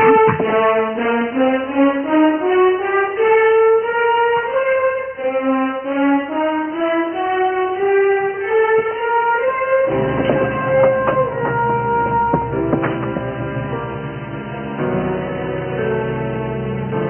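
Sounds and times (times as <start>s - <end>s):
orchestral music with strings and brass: 0.0s - 17.0s.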